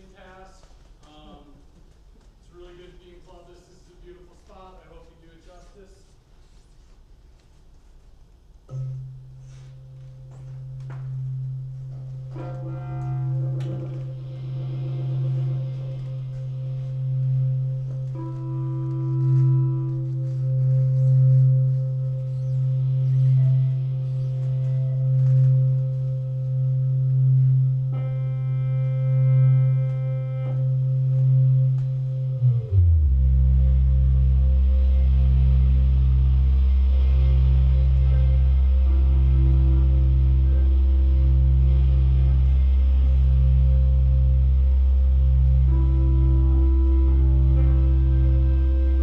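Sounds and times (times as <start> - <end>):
high wavering layered tone: 8.7 - 49.0
low electronic drone: 8.7 - 49.0.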